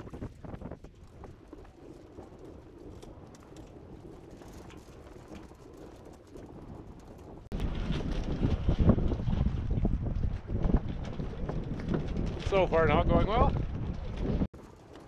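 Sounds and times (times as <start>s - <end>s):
wind hitting microphone: 0.0s - 14.5s.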